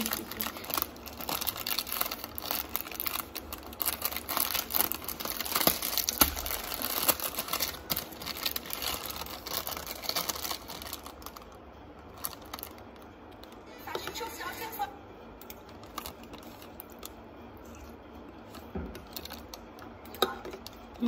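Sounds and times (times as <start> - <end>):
packaging crinkling: 0.0 - 14.2, 15.4 - 21.0.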